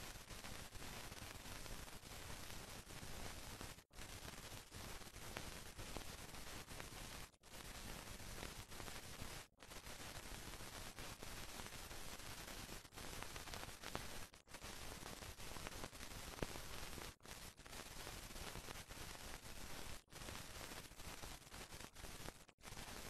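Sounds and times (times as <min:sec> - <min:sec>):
faint crackles: 0:00.0 - 0:23.0
static hiss: 0:00.0 - 0:23.0.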